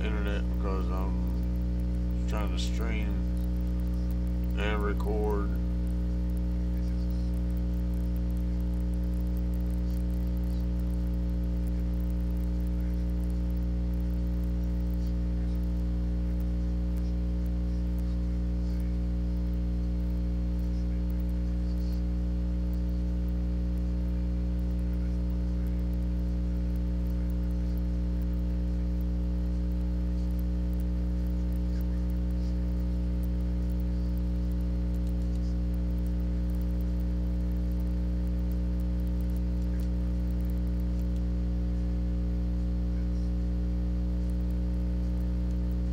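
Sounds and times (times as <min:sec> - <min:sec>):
electrical mains hum: 0:00.0 - 0:45.9
faint ticks: 0:00.0 - 0:45.9.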